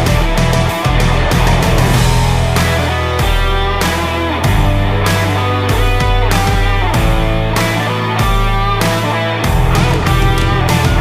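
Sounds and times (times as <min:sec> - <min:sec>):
rock music with distorted guitar: 0:00.0 - 0:11.0.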